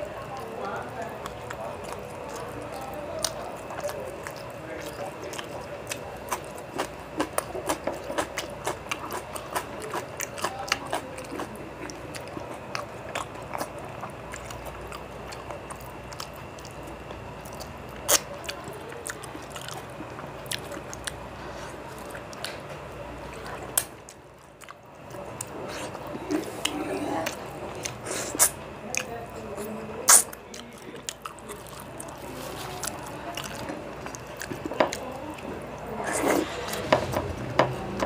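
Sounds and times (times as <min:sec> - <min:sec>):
wet chewing with lip smacks: 0:00.1 - 0:36.8.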